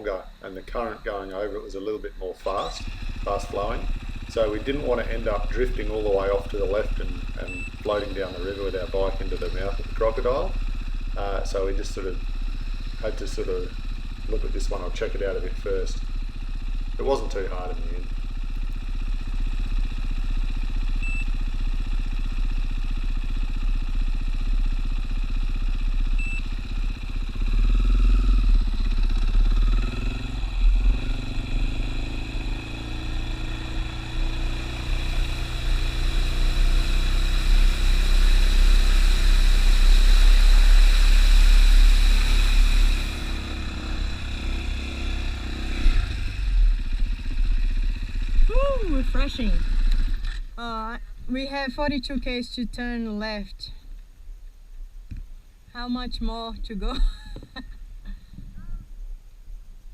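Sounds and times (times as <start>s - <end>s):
dirt bike engine running: 2.4s - 53.0s.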